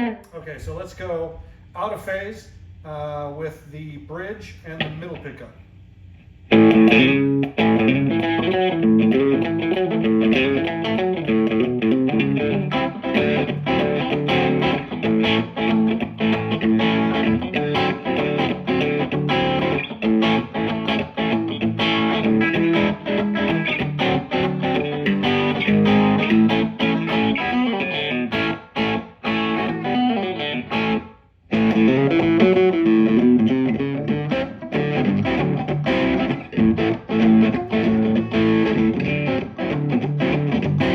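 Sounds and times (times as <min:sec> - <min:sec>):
overdriven electric guitar playing: 0:06.5 - 0:40.9.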